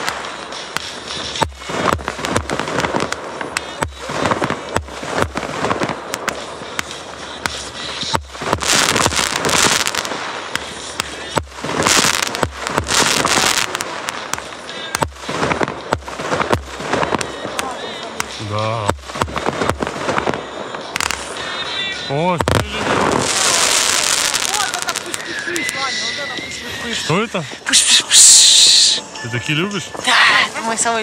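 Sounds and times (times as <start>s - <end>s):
firework booms and cracks: 0.0s - 26.2s
firework crackling hiss: 0.0s - 31.0s.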